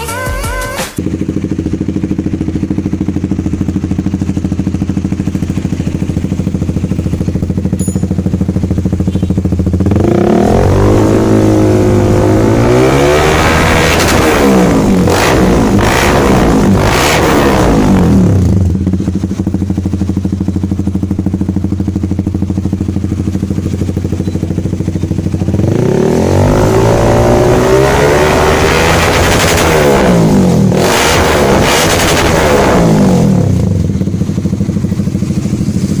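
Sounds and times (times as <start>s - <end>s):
motorcycle engine revving and idling: 0.1s - 36.0s.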